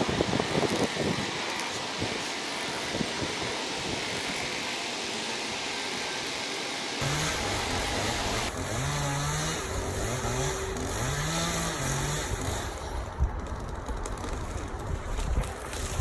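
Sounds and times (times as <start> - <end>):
excavator working: 0.0 - 16.0.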